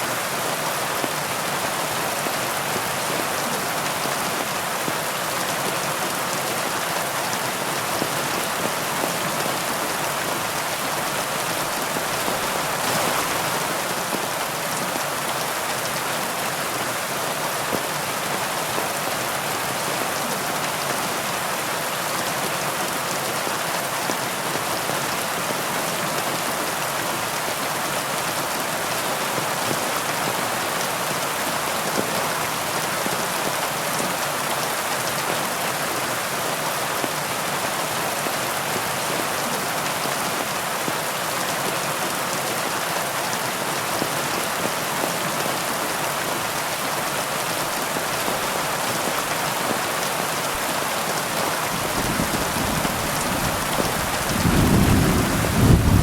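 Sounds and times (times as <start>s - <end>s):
heavy rain on leaves: 0.0s - 56.0s.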